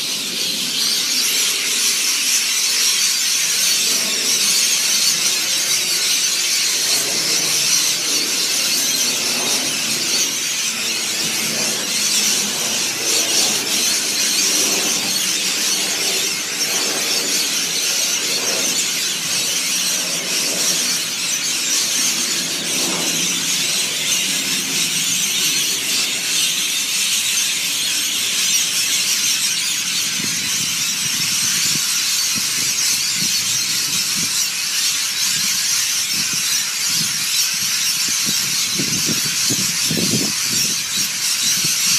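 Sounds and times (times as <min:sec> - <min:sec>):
flock of birds screeching: 0:00.0 - 0:41.9.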